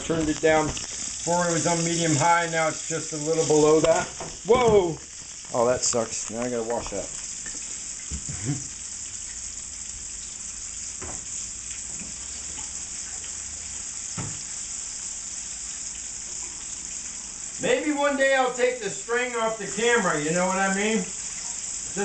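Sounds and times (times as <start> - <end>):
chicken deep-frying in oil: 0.0 - 22.0.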